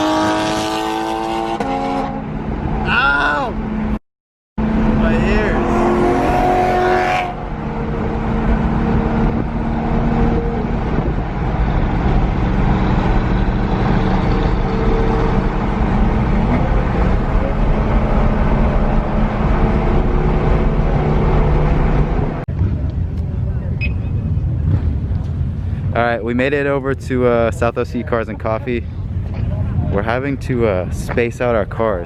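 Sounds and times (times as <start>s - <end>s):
road and wind noise: 0.0s - 4.0s, 4.6s - 32.0s
car engine hum: 4.6s - 32.0s.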